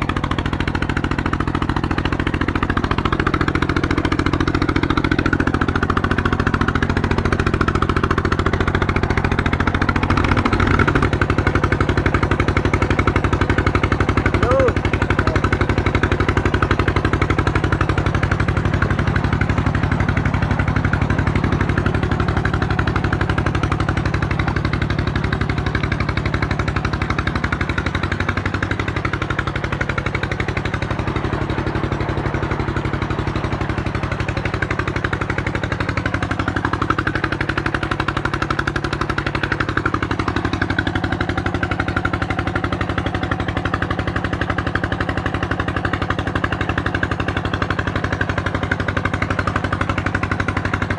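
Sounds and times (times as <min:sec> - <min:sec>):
small diesel engine running: 0:00.0 - 0:50.9.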